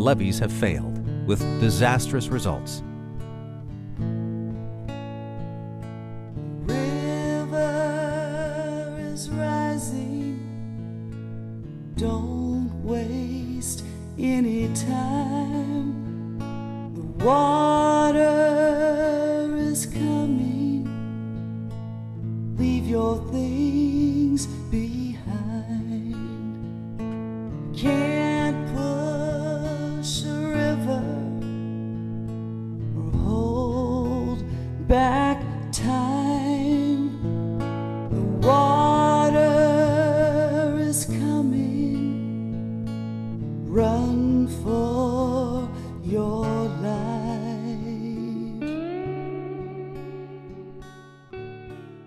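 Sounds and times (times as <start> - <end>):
slow music with sliding melody: 0.0 - 52.0.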